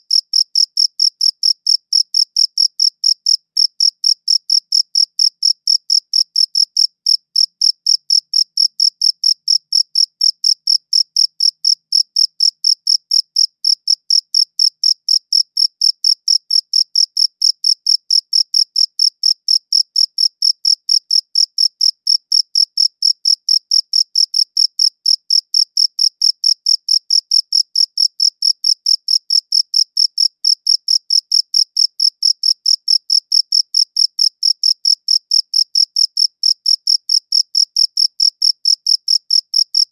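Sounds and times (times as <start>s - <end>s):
cricket chirping: 0.1s - 39.9s.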